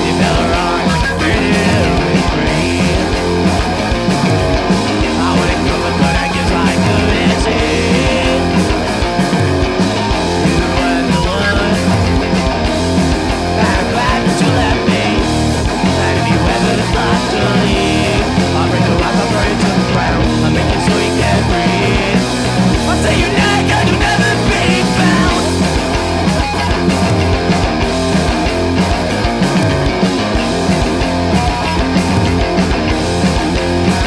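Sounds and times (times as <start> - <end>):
bass guitar: 0.0 - 34.0
distorted electric guitar: 0.0 - 34.0
drums: 0.0 - 34.0.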